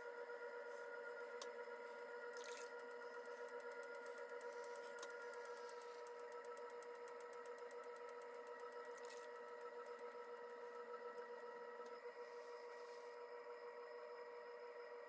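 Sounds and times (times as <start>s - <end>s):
potter's wheel motor whine: 0.0s - 15.0s.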